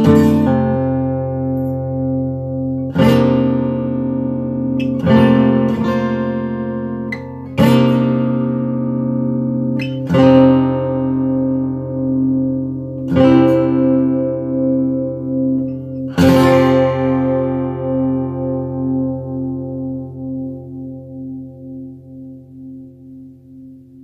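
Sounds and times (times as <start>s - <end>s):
acoustic guitar chords strummed: 0.0s - 24.0s.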